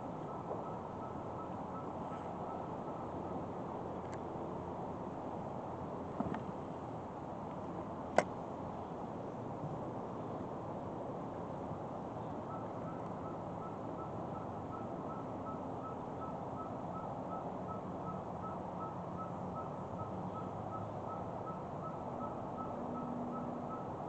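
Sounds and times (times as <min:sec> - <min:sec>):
wind: 0:00.0 - 0:24.0.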